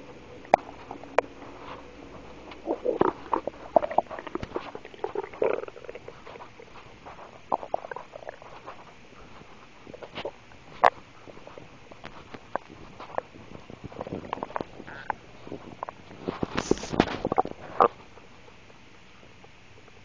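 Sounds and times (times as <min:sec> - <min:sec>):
stomach rumbling: 0:00.0 - 0:20.0.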